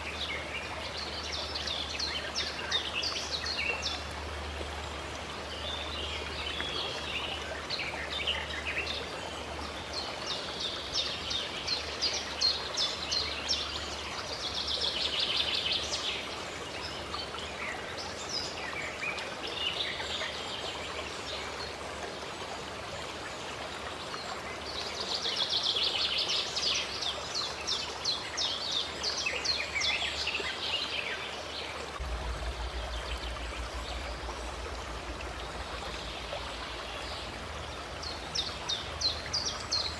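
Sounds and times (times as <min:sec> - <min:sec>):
flowing water: 0:00.0 - 0:39.9
songbirds chirping: 0:00.0 - 0:39.9.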